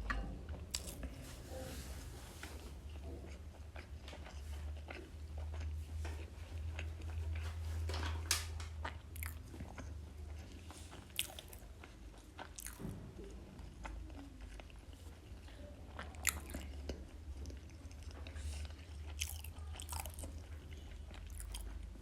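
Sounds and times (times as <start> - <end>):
steady low hum: 0.0 - 22.0
chewing and biting food: 0.1 - 1.2, 2.8 - 22.0.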